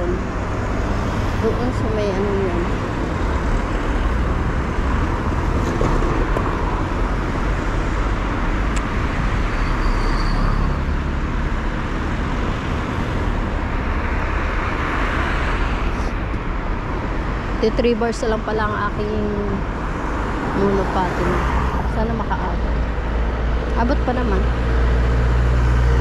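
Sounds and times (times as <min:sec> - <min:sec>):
deep low traffic rumble: 0:00.0 - 0:26.0
vehicles driving past: 0:00.0 - 0:26.0.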